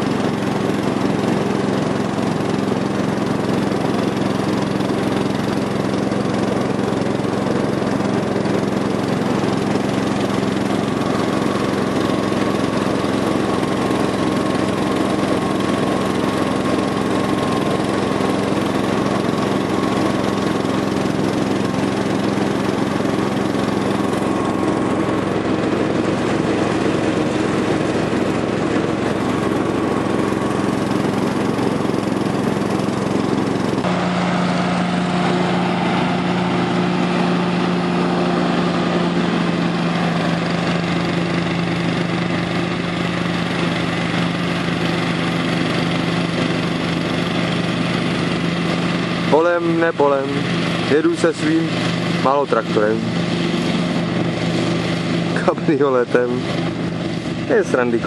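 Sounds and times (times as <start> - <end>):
lawn tractor engine humming: 0.0 - 58.0.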